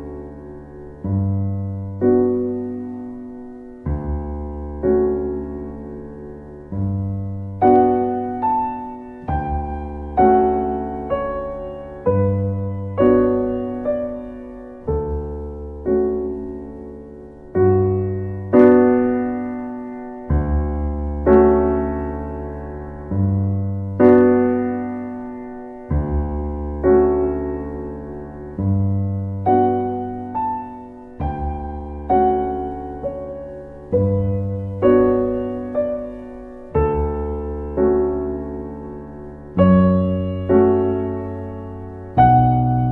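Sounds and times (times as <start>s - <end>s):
slow solo piano music: 0.0s - 42.9s.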